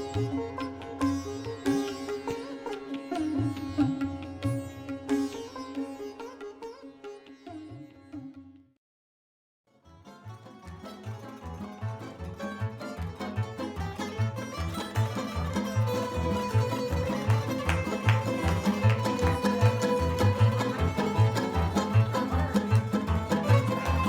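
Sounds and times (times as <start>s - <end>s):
plucked string ensemble folk music: 0.0s - 7.7s, 9.9s - 24.0s.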